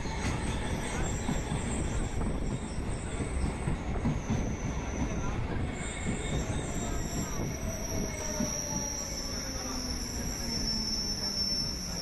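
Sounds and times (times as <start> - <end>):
faint wheel squeal: 0.0 - 12.0
train wheels rumbling on rails: 0.0 - 12.0.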